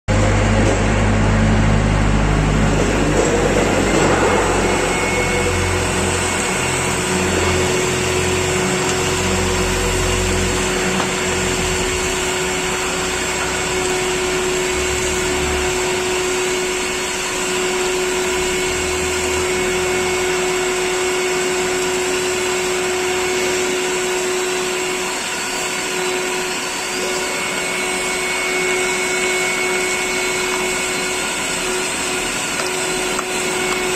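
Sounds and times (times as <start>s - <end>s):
vacuum cleaner motor whine: 0.1s - 33.9s.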